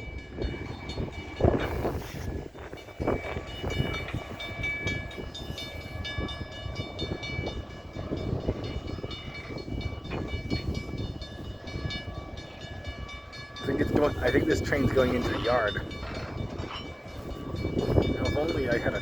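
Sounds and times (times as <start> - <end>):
crossing bell ringing tones: 0.0 - 19.0
freight train rumbling past: 0.0 - 19.0
wheels and couplers clanking: 0.0 - 19.0.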